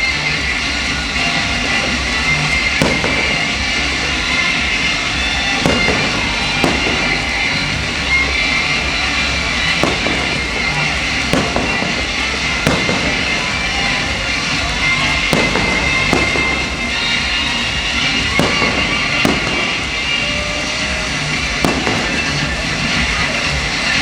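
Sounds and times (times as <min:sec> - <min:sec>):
firework bursts: 0:00.0 - 0:24.0
loud music: 0:00.0 - 0:24.0.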